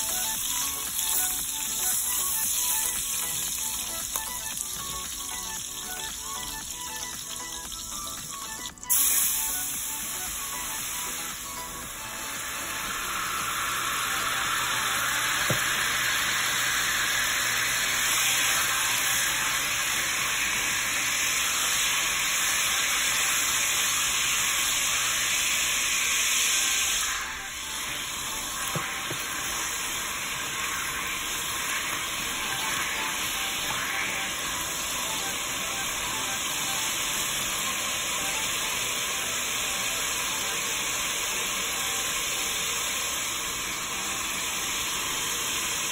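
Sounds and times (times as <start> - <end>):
water sizzling and bubbling in a pot: 0.0 - 45.9.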